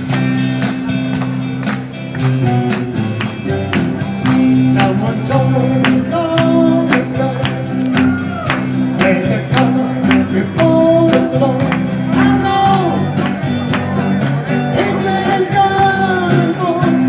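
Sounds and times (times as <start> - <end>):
rock band music: 0.0 - 17.0.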